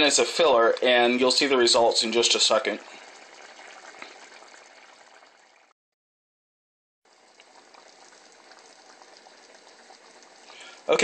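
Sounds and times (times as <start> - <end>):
sauce bubbling in a pot: 0.0 - 5.8, 7.0 - 11.0.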